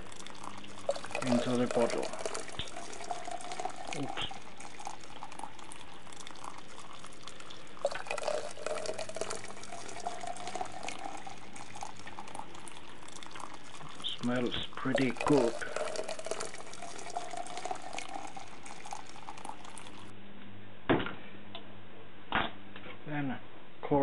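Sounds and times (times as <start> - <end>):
liquid pouring into bottle: 0.0 - 20.1.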